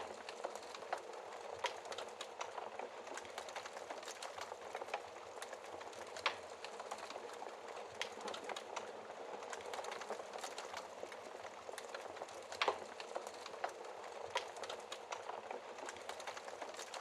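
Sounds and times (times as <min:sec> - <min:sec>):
wood fire popping and snapping: 0:00.0 - 0:17.0.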